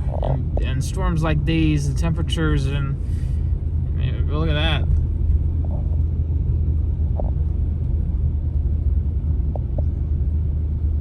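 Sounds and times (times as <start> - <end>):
truck engine and tyres rumbling: 0.0 - 11.0.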